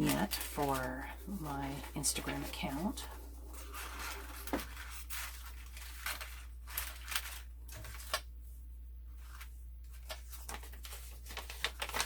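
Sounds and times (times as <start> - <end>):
paper rustling: 0.0 - 8.3, 9.1 - 12.0.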